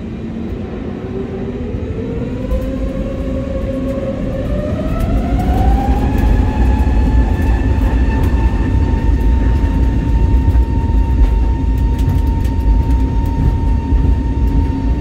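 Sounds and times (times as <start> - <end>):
heavy rumble of takeoff roll: 0.0 - 15.0
jet engines spooling up: 0.0 - 15.0.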